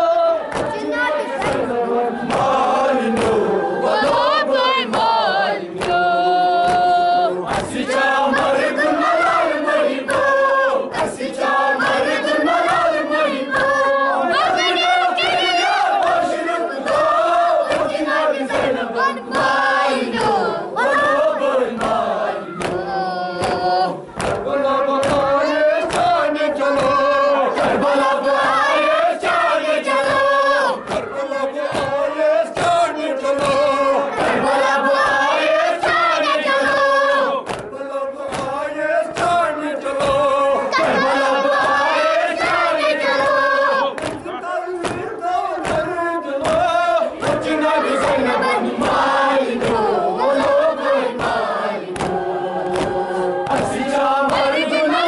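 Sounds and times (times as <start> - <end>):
men chanting in unison: 0.0 - 55.0
rhythmic chest-beating slaps: 0.0 - 55.0.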